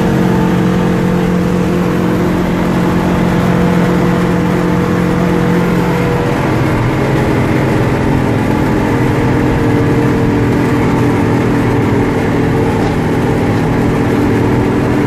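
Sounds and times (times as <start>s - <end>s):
snowcat engine running: 0.0s - 15.0s.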